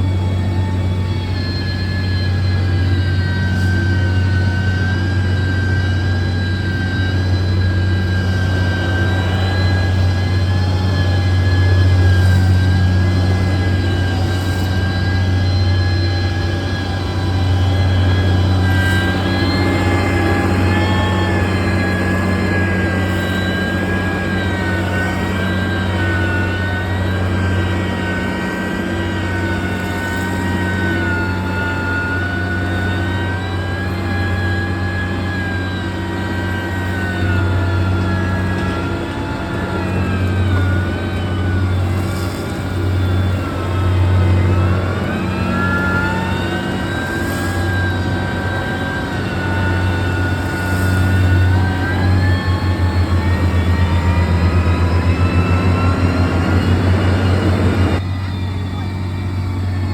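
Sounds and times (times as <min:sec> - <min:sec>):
diesel engine rumbling and whining: 0:00.0 - 0:59.9.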